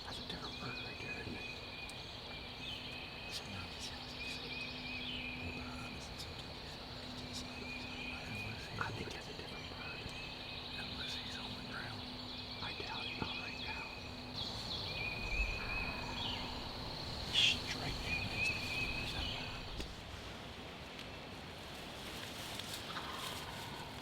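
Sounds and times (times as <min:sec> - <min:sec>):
background hiss: 0:00.0 - 0:24.0.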